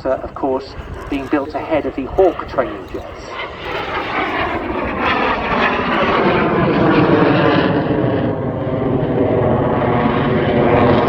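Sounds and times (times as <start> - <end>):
jet engine whine passing: 0.0 - 11.0.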